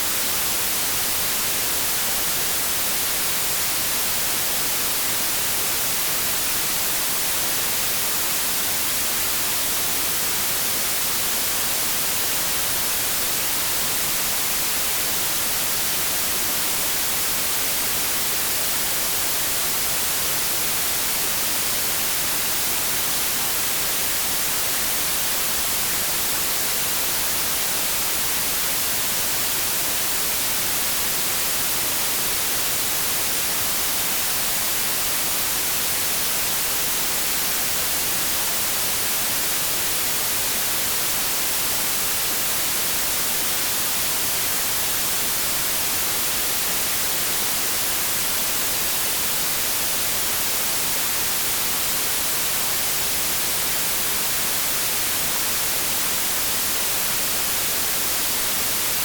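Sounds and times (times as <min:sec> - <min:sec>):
synthetic white noise hiss: 0:00.0 - 0:59.0.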